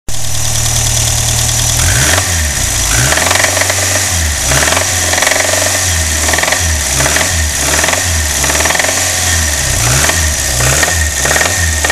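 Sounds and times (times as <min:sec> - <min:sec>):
car engine idling: 0:00.1 - 0:11.9.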